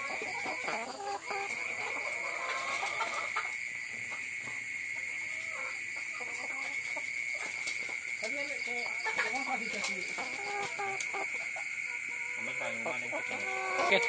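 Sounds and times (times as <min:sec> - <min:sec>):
hens clucking softly: 0:00.0 - 0:14.0.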